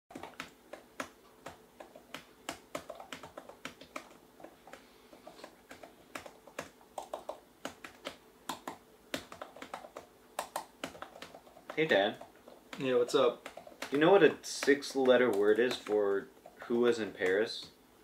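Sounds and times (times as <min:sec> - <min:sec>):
faint steady hum: 0:00.1 - 0:18.0.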